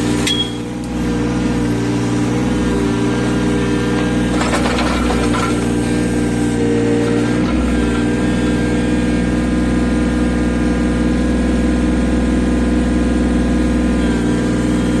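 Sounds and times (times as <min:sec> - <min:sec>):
excavator engine humming: 0:00.0 - 0:15.0.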